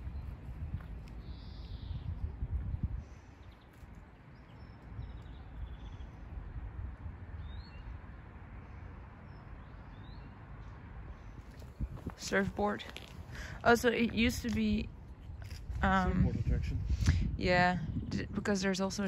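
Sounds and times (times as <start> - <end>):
steady low rumble: 0.0 - 9.6, 10.9 - 19.0.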